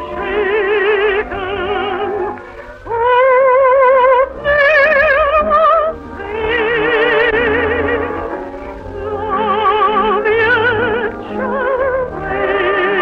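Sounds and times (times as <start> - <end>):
operatic singing: 0.0 - 13.0.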